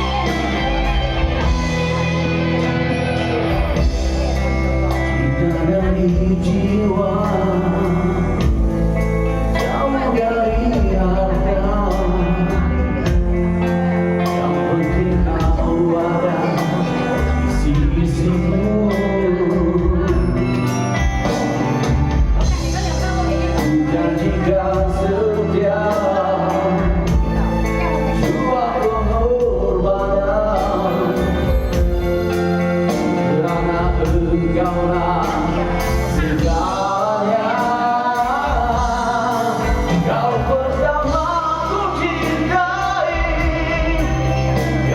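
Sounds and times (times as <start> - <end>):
bass line: 0.0 - 44.9
drums: 0.0 - 44.9
person singing: 0.0 - 44.9.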